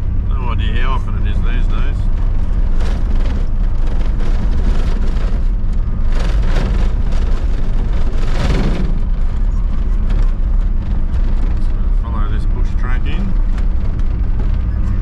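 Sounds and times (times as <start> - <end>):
diesel engine rumble: 0.0 - 15.0
tyre and road noise: 0.0 - 15.0.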